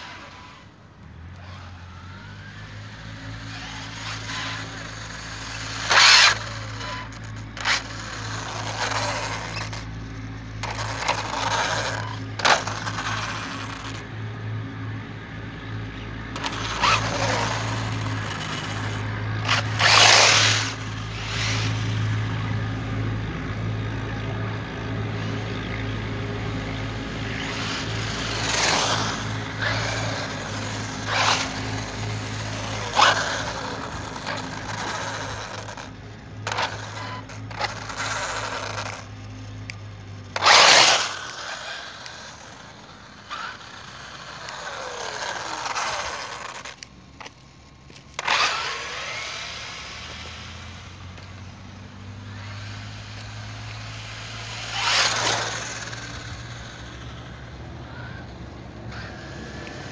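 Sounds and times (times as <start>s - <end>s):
rc car motor whine passing: 0.0s - 59.9s.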